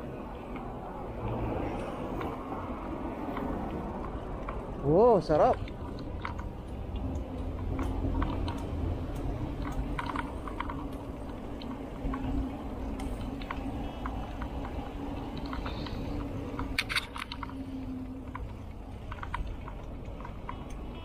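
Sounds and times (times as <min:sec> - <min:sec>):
bike clicks and rattles: 0:00.1 - 0:21.0.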